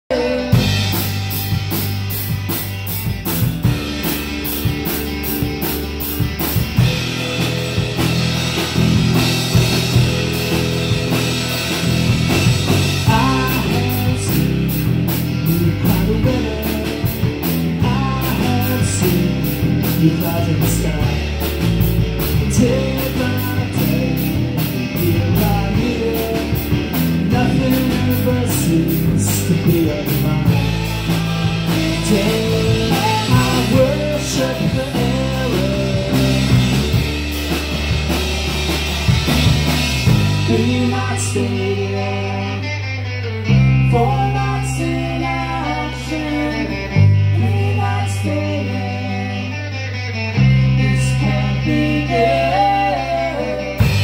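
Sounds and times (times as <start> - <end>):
bass line: 0.0 - 54.0
drum kit: 0.1 - 49.1, 50.4 - 54.0
electric guitars: 0.1 - 54.0
melodic lead line: 0.1 - 54.0.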